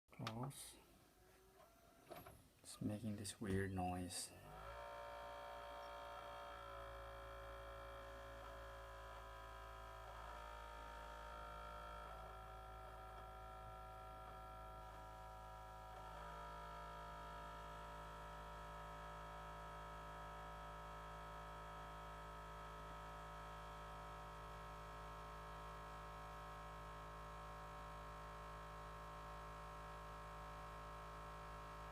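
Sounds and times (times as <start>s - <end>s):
faint electrical hum: 0.1s - 31.9s.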